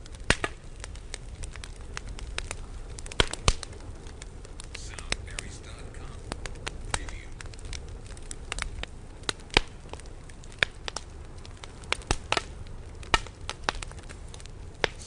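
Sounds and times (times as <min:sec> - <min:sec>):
low rumble of flames: 0:00.0 - 0:15.0
wood crackling and popping: 0:00.0 - 0:15.0.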